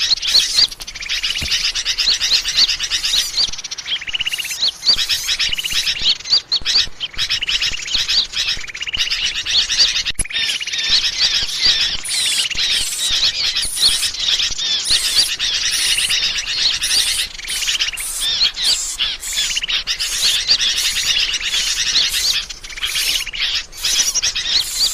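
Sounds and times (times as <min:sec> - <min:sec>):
small birds chirping and twittering: 0:00.0 - 0:24.9.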